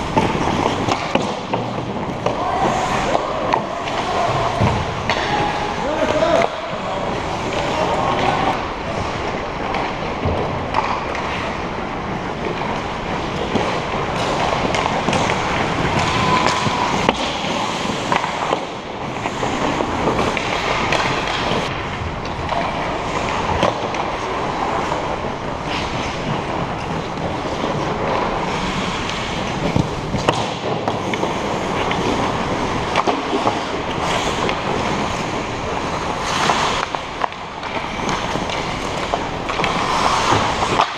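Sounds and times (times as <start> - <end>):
hockey sticks and puck clacking: 0.0 - 40.9
skates scraping on ice: 0.0 - 40.9.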